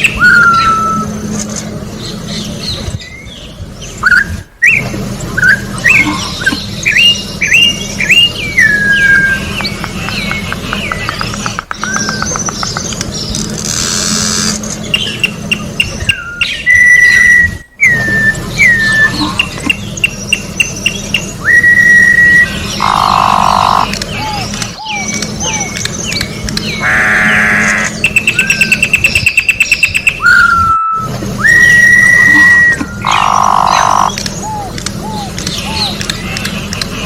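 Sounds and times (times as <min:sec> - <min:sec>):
bird singing whistled song: 0:00.0 - 0:01.2, 0:02.4 - 0:13.0, 0:14.9 - 0:26.3, 0:28.0 - 0:36.3
harsh buzzy bird notes: 0:00.0 - 0:37.0.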